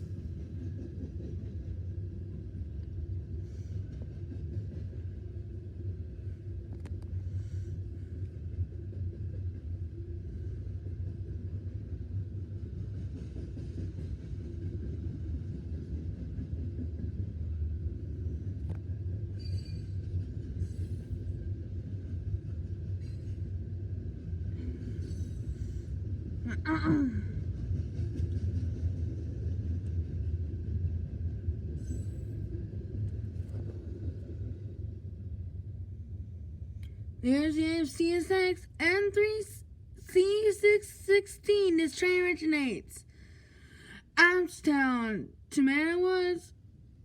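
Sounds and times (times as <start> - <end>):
freight train rumbling past: 0.0 - 39.4.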